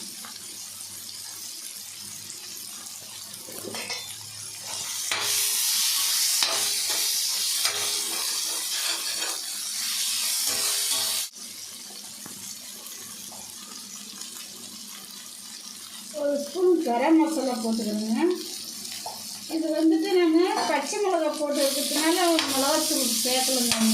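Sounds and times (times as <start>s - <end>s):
masala sizzling in a pan: 0.0s - 23.9s.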